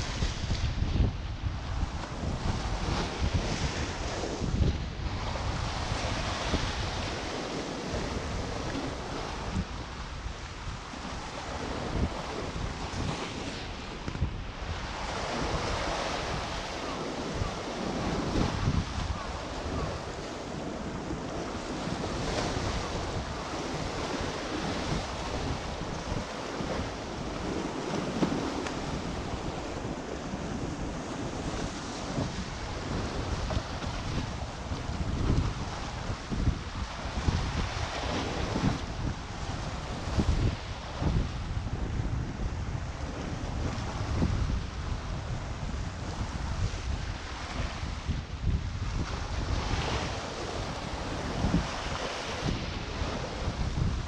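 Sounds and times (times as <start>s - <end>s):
sea waves washing against rocks: 0.0s - 54.0s
wind buffeting microphone: 0.0s - 54.0s.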